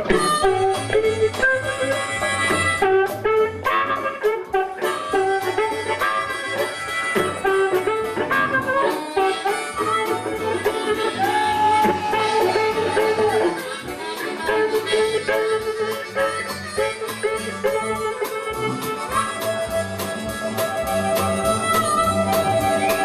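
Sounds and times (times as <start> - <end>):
band music with steady beat: 0.0 - 23.0.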